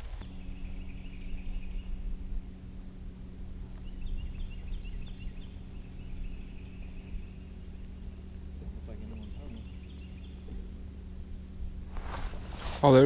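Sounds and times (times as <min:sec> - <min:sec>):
electric trolling motor humming: 0:00.0 - 0:13.0
songbirds singing: 0:00.0 - 0:13.0.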